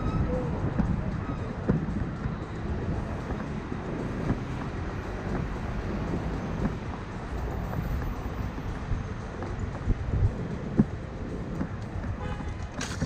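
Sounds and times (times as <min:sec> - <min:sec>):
bicycle rumbling over streets: 0:00.0 - 0:13.0.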